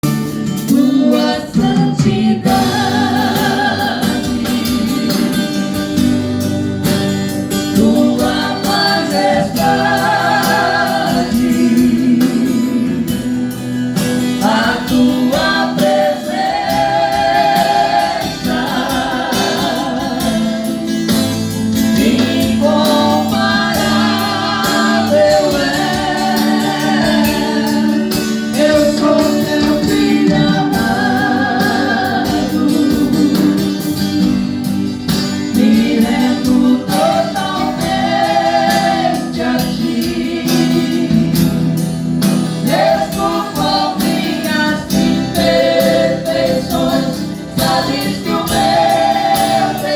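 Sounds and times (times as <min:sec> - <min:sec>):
band accompaniment with steady beat: 0:00.0 - 0:49.9
gospel group singing: 0:00.0 - 0:49.9.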